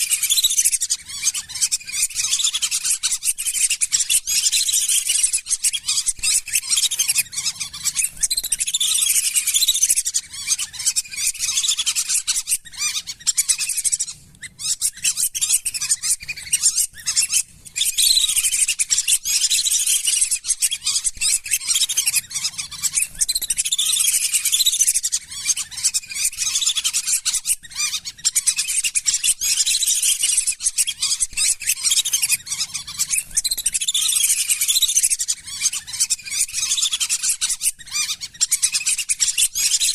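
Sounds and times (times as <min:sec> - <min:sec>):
whistling ducks calling: 0:00.0 - 0:39.9.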